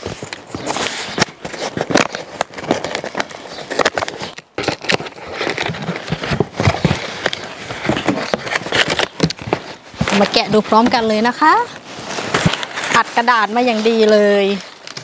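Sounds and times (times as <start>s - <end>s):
cardboard parcel being opened: 0.0s - 15.0s.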